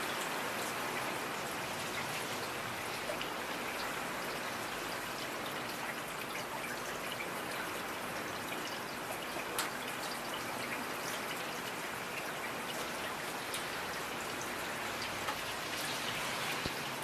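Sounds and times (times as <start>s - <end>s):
rain hiss: 0.0s - 17.0s
raindrops ticking on a surface: 0.0s - 17.0s.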